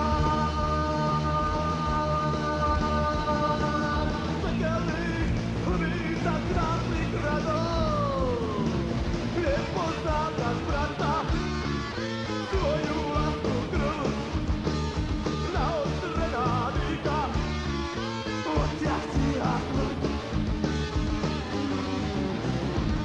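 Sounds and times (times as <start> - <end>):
speed metal music: 0.0 - 23.0.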